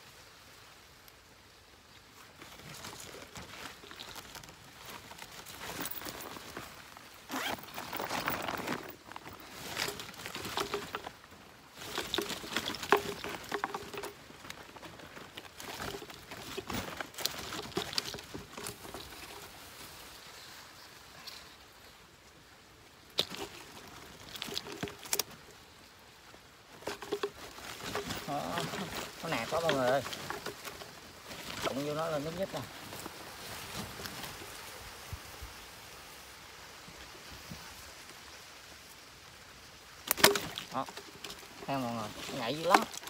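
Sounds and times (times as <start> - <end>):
mesh rustling and crinkling: 2.0 - 21.8, 22.9 - 35.6, 39.9 - 43.0.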